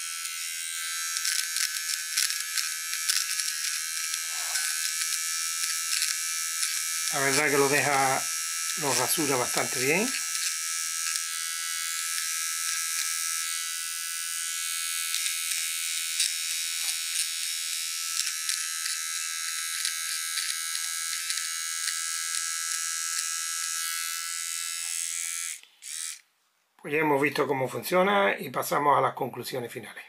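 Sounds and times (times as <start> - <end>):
hair trimmer buzzing: 0.0 - 26.3.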